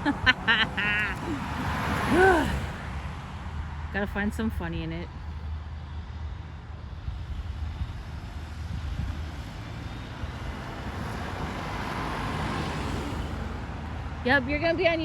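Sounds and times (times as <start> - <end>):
motor vehicle passing: 0.0 - 15.0.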